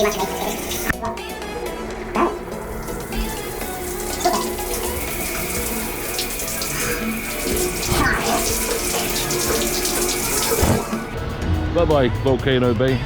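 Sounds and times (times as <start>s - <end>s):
shower water spraying: 0.0s - 11.2s.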